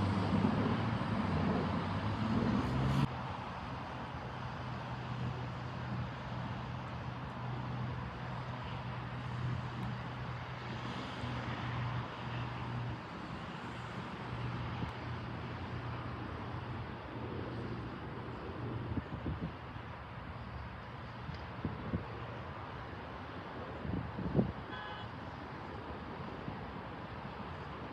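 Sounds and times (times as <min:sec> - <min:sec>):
low engine hum: 0:00.0 - 0:22.4
traffic noise: 0:00.0 - 0:27.9.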